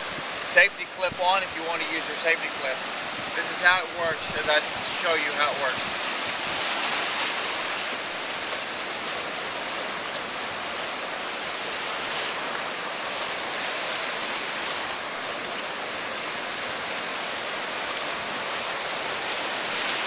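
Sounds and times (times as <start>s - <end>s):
foam washing in shallows: 0.0s - 20.0s
waves breaking: 0.0s - 20.0s.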